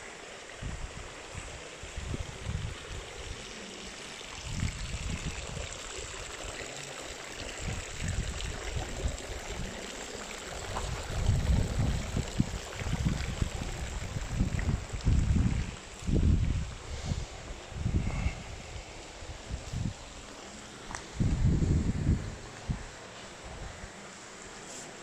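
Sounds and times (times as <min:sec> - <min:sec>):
steady hiss: 0:00.0 - 0:25.0
wind buffeting microphone: 0:00.6 - 0:03.4, 0:04.3 - 0:05.9, 0:07.6 - 0:20.3, 0:20.9 - 0:24.0.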